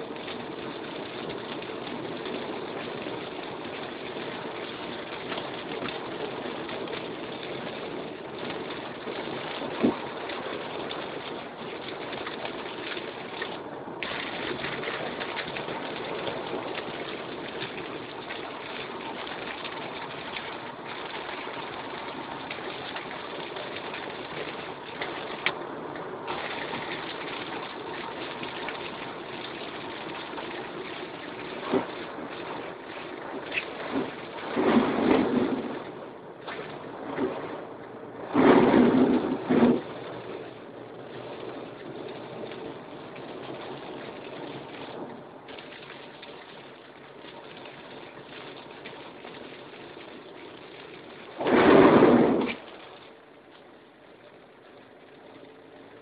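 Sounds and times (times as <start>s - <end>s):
rain on car windscreen and roof: 0.0s - 56.0s
tyres hissing on wet road: 0.0s - 56.0s.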